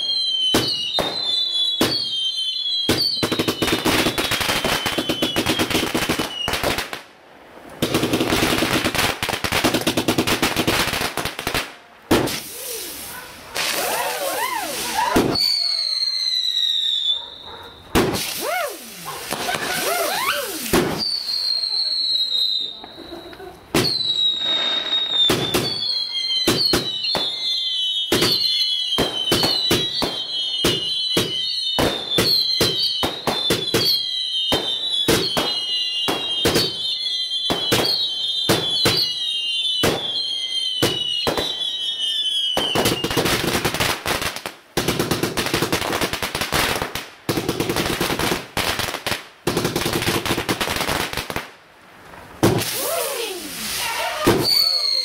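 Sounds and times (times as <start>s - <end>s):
whistling firework shots: 0.0s - 7.0s, 7.8s - 51.4s, 52.4s - 55.0s
firework crackling: 0.0s - 17.2s, 17.8s - 36.8s, 42.5s - 55.0s.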